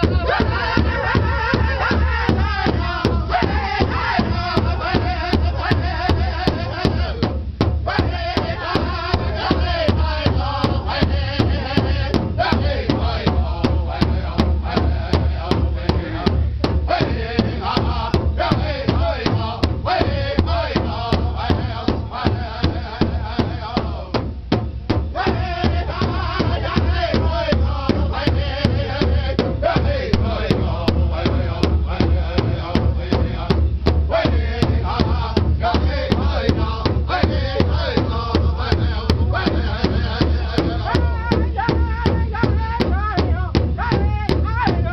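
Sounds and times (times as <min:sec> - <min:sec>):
large drum beating: 0:00.0 - 0:44.9
men singing together: 0:00.0 - 0:44.9.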